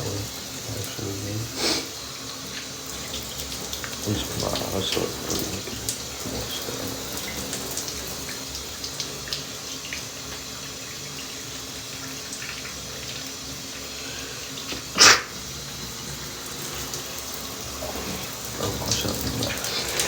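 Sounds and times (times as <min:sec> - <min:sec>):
shower water running: 0:00.0 - 0:20.0.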